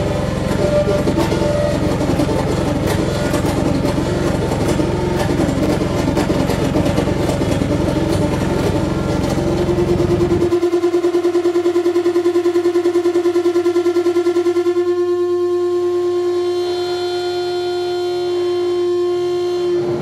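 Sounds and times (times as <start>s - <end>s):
saxophone feedback noise: 0.0s - 20.0s.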